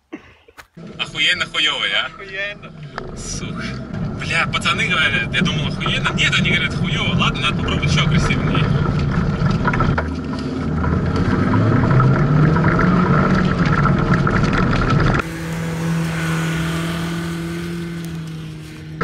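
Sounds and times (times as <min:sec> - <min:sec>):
wheels spinning in dirt: 0:00.7 - 0:19.0
car engine revving: 0:00.8 - 0:19.0.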